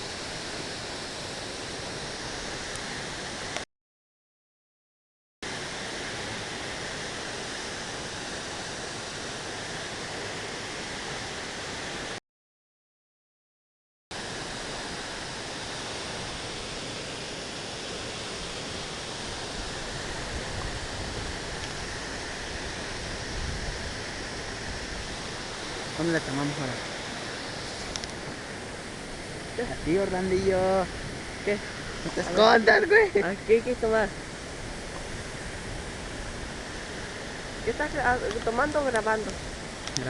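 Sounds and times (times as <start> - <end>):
waterfall rushing: 0.0 - 3.6, 5.5 - 12.2, 14.2 - 40.0.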